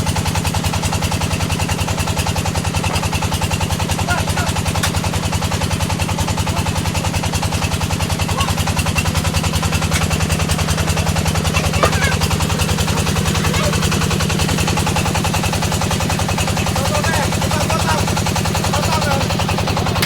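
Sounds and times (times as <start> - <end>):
brick-making machine knocking: 1.4 - 20.0.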